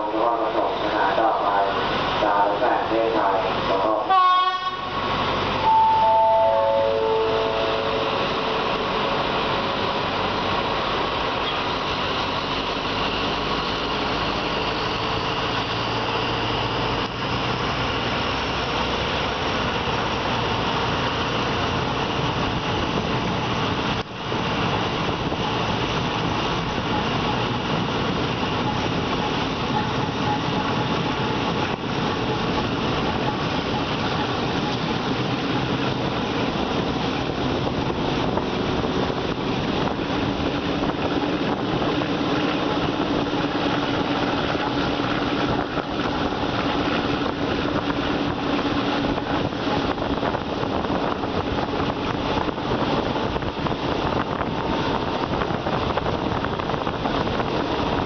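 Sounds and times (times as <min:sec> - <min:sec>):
train wheel and air noise: 0:00.0 - 0:58.0.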